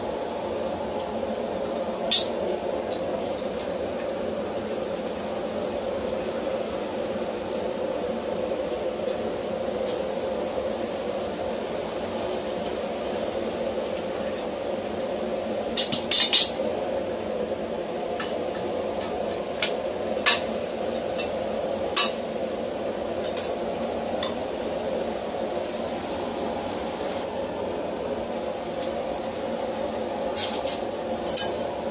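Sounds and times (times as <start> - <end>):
steady background hum: 0.0 - 31.9.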